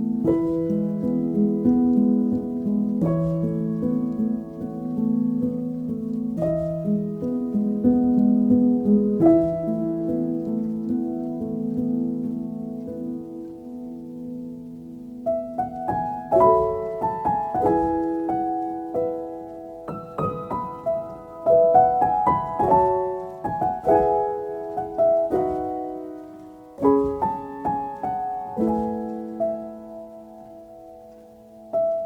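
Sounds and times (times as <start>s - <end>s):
soft piano music: 0.0s - 32.0s.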